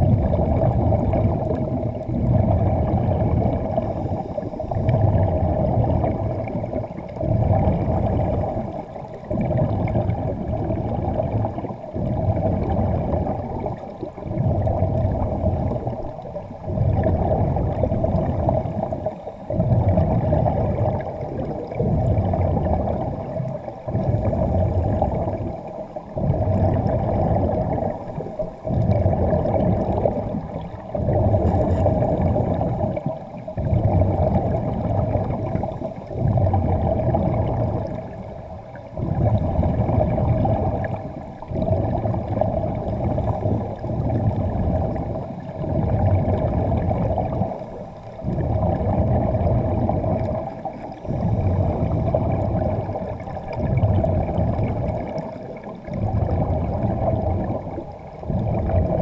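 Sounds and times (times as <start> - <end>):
underwater breathing with bubbles: 0.0 - 59.0.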